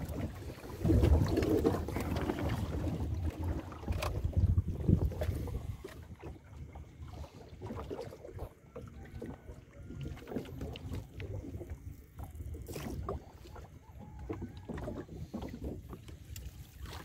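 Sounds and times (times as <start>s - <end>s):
water lapping against hull: 0.0s - 17.0s
wind rumble on microphone: 0.0s - 17.0s.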